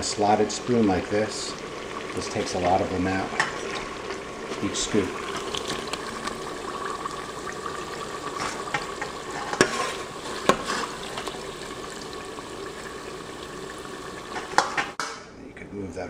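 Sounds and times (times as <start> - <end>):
hot oil sizzling: 0.0 - 15.2.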